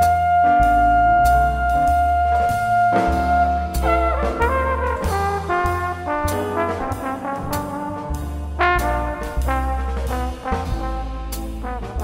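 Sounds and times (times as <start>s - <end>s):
double bass: 0.0s - 12.0s
horn melody: 0.0s - 12.0s
piano: 0.0s - 12.0s.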